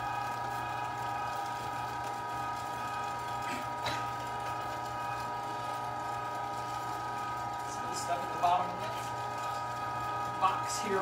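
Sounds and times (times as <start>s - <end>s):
meat grinder motor humming: 0.0s - 11.0s.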